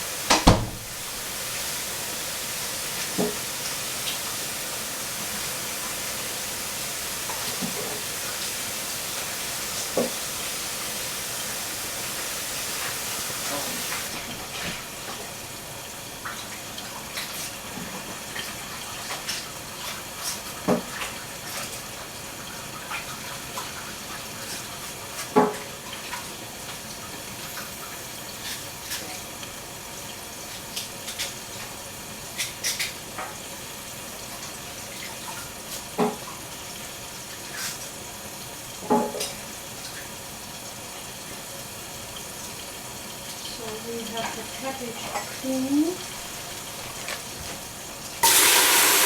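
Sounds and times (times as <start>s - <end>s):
tap water running: 0.0s - 49.0s.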